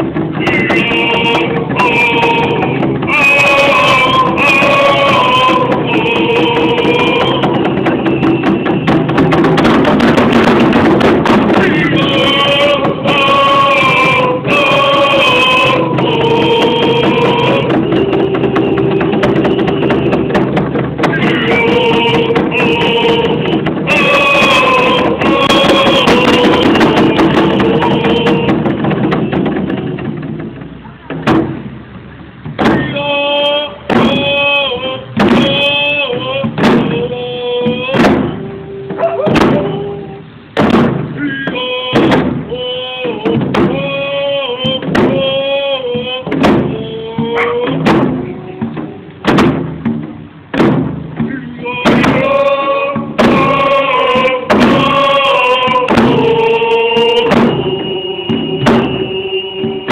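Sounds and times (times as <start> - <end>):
men singing in unison: 0.0 - 30.2, 32.6 - 40.4, 41.2 - 49.3, 51.2 - 59.9
frame hand drum strokes: 0.0 - 59.9.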